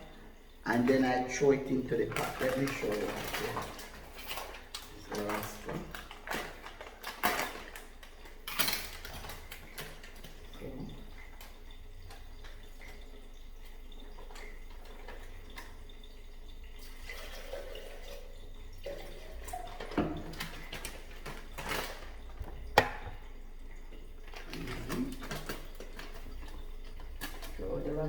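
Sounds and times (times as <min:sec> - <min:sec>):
water pouring into a cup: 0:00.0 - 0:28.0.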